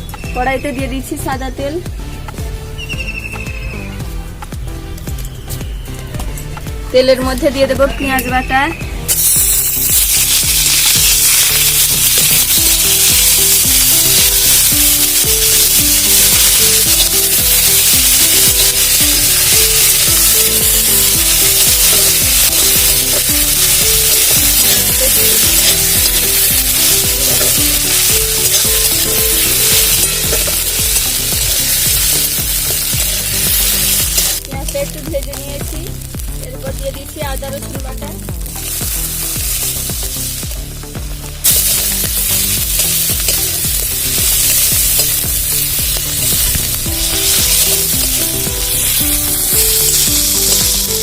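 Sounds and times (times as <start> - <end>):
onion paste sizzling in oil: 8.4 - 51.0.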